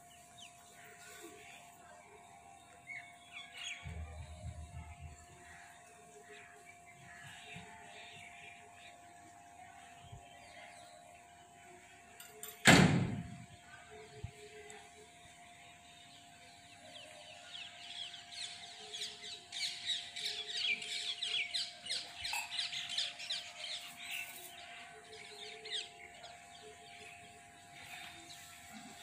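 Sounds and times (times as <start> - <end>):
birds chirping: 0.0 - 12.5, 13.3 - 29.0.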